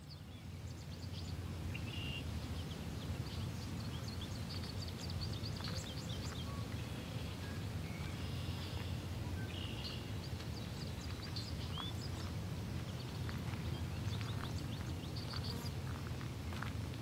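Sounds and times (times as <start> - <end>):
small birds chirping: 0.0 - 16.7
steady low rumble: 2.3 - 17.0.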